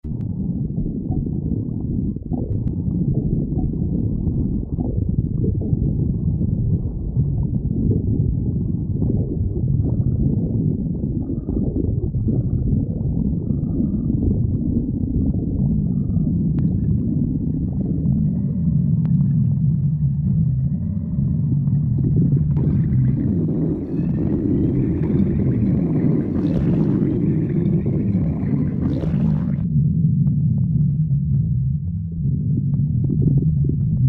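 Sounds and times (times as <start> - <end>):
stomach growling and gurgling: 0.0 - 34.0.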